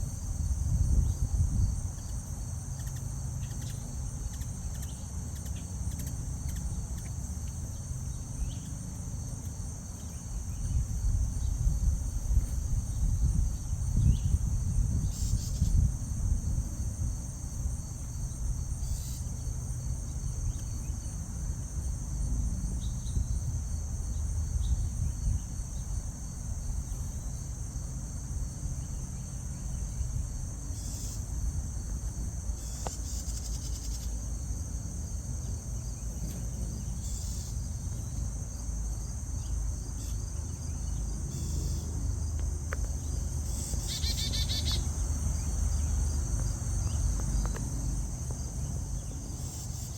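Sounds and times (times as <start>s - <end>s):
crickets chorus: 0.0s - 49.9s.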